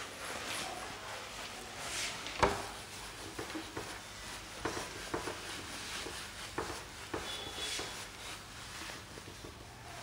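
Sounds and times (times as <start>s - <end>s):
whiteboard being wiped: 0.0s - 10.0s.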